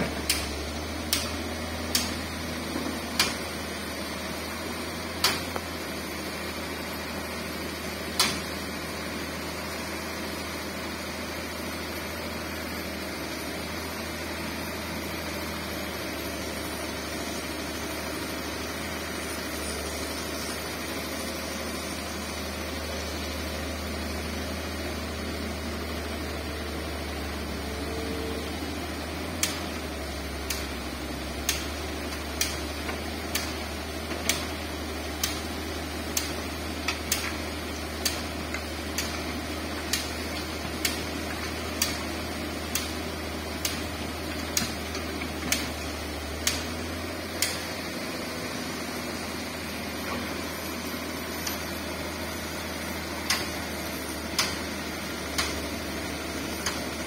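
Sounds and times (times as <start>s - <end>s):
excavator diesel engine droning: 0.0s - 57.0s.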